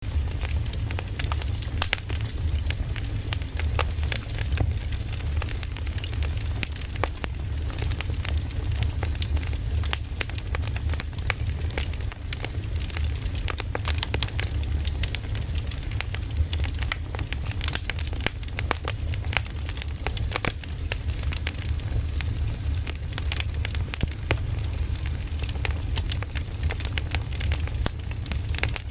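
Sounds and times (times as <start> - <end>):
campfire crackling: 0.1 - 28.9.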